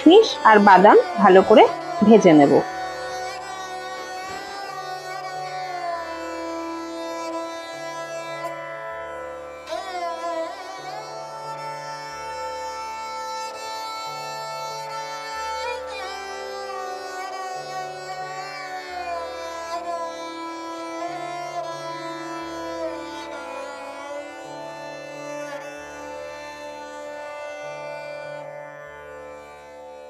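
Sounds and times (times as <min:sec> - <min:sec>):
sitar-like string melody: 0:00.0 - 0:30.0.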